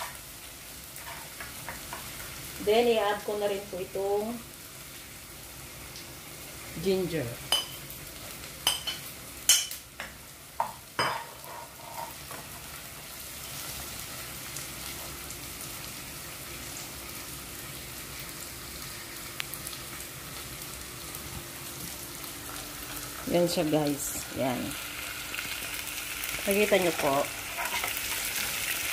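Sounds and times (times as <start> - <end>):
onion and garlic sizzling in oil: 0.0 - 28.9.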